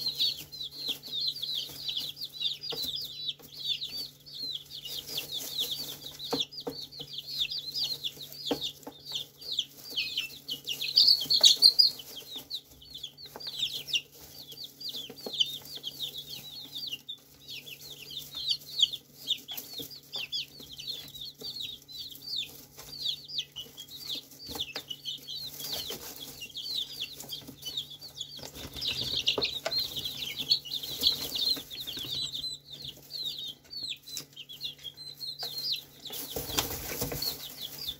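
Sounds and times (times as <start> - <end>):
chicks peeping: 0.0 - 37.9
pecking and scratching in hay: 0.0 - 37.9.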